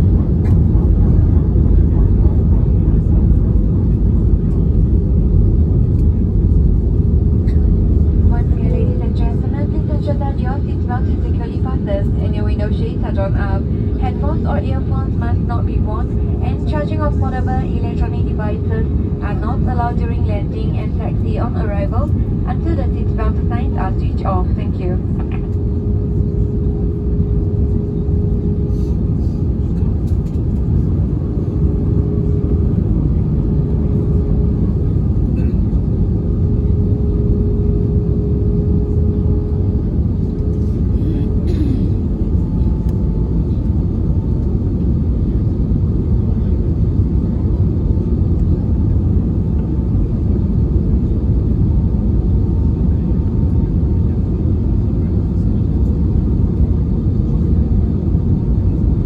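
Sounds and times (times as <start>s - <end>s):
steady hum: 0.0s - 51.2s
airliner cabin rumble: 0.0s - 59.0s.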